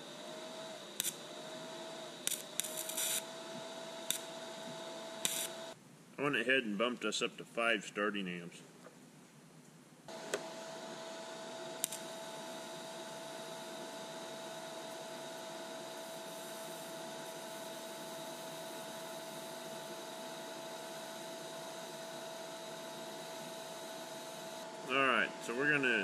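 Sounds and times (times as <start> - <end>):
welding arc hiss and whine: 0.0 - 5.8, 10.1 - 26.0.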